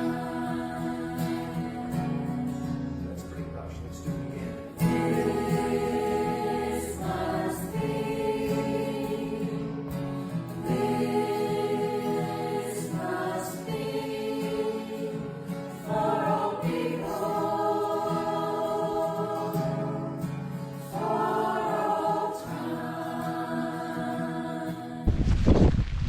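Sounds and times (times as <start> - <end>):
sung song with accompaniment: 0.0 - 3.0, 4.3 - 25.2.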